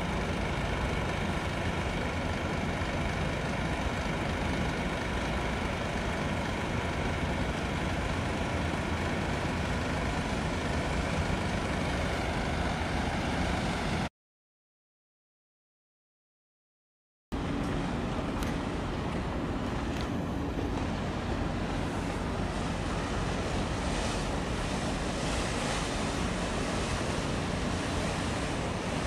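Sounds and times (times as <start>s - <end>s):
low engine rumble: 0.0s - 14.1s, 17.4s - 29.0s.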